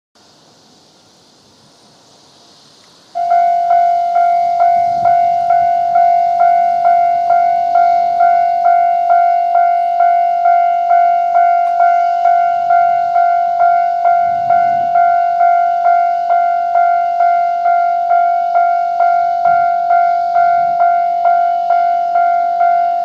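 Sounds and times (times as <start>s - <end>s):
level crossing warning bell: 3.2s - 23.0s.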